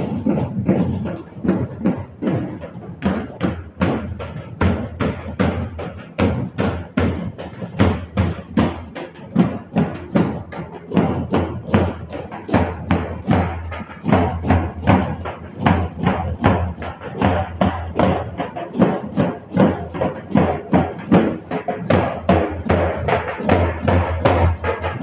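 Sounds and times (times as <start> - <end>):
dhol drums beating dance rhythm: 0.0 - 25.0.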